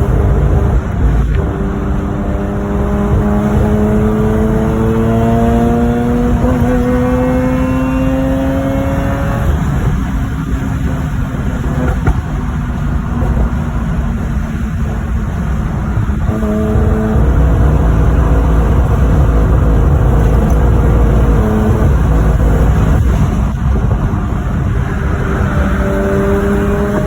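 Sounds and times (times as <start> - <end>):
rotary engine accelerating: 0.0 - 27.0.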